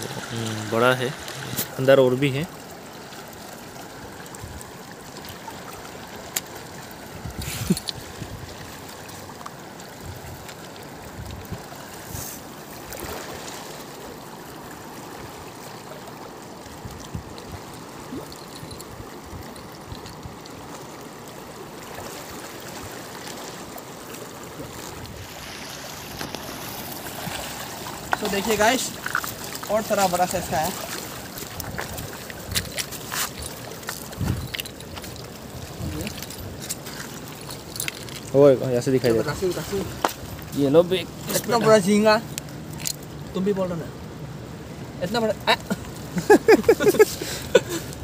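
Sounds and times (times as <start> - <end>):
river flowing: 0.0 - 48.0.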